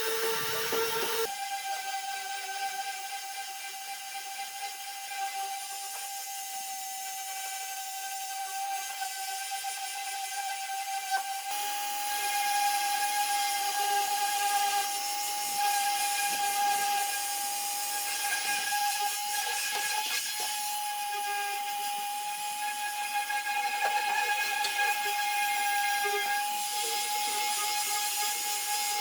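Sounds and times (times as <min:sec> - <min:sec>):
electric motor high-pitched whine: 0:00.0 - 0:02.0, 0:03.7 - 0:29.0.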